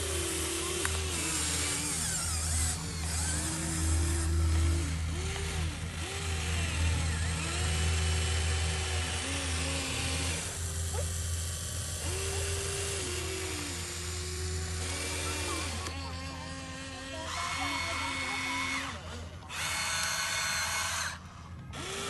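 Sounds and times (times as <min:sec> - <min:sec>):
model excavator motors whining: 0:00.0 - 0:22.0.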